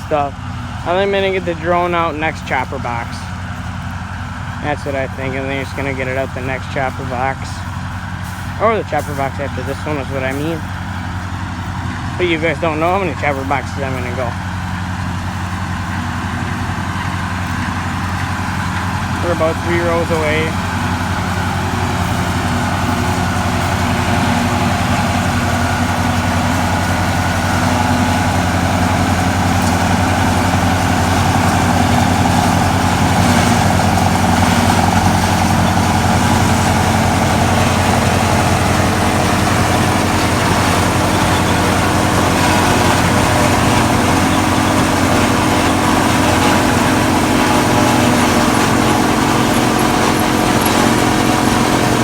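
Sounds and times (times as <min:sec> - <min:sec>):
forage chopper working: 0:00.0 - 0:52.0
tractor engine running: 0:00.0 - 0:52.0.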